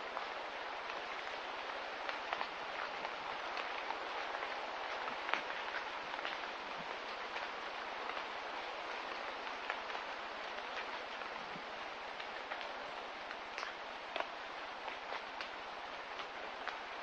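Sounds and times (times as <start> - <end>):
light rain hiss: 0.0 - 17.0
raindrops ticking: 0.1 - 17.0.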